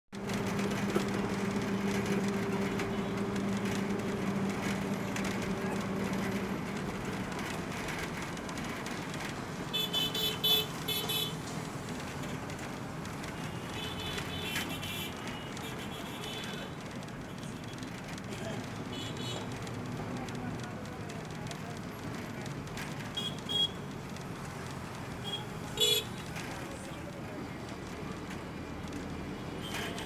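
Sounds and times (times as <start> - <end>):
vehicle engine and road noise: 0.1 - 30.0.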